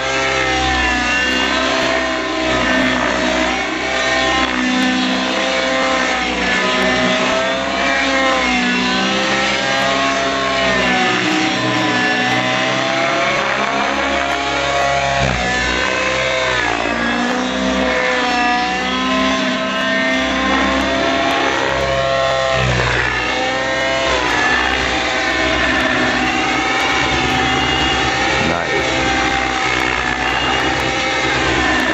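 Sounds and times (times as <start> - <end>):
model helicopter engine and rotor: 0.0 - 31.9.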